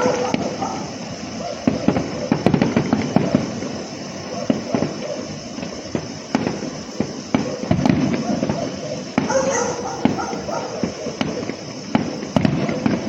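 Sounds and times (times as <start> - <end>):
fireworks bangs and crackles: 0.0 - 13.0
rumble of distant bursts: 0.0 - 13.0.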